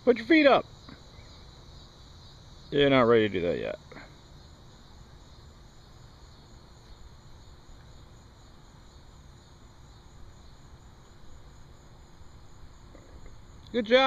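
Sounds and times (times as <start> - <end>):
insect chorus: 0.0 - 14.0.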